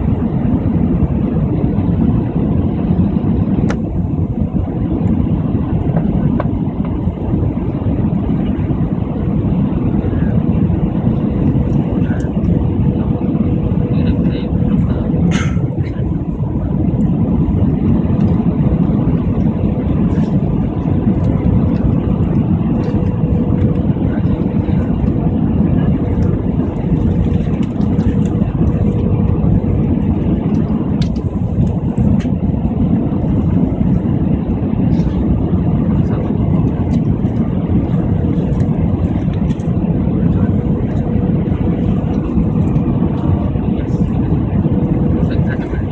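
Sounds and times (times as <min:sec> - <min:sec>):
airliner engine drone in cabin: 0:00.0 - 0:45.9.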